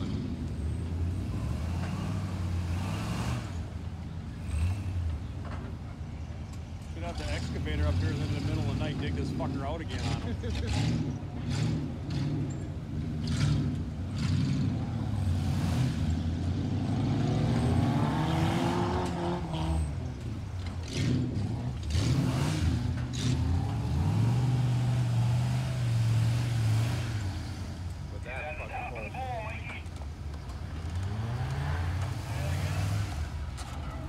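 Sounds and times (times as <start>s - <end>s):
buggy engine revving: 0.0s - 34.0s.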